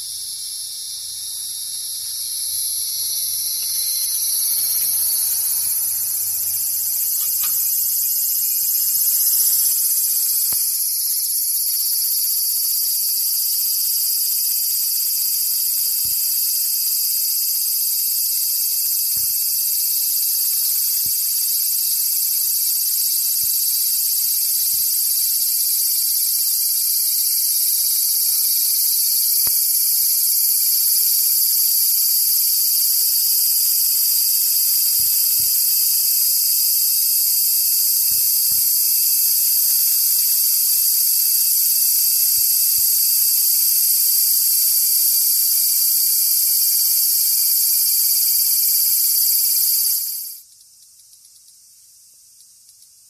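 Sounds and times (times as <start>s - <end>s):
cicada buzzing: 0.0s - 51.5s.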